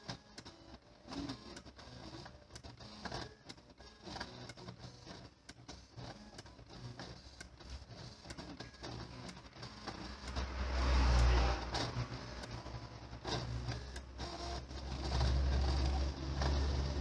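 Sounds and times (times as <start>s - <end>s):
printer motor whirring: 0.0s - 17.0s.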